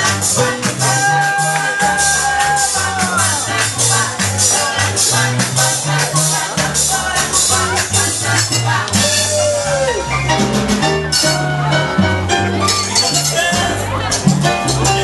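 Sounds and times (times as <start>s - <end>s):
salsa music: 0.0s - 15.0s.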